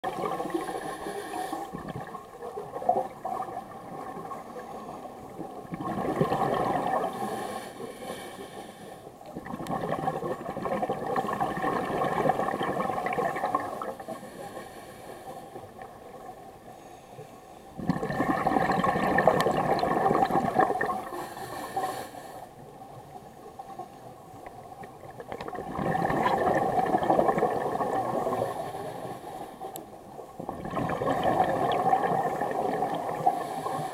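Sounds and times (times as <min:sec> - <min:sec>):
underwater air bubbling: 0:00.0 - 0:33.9.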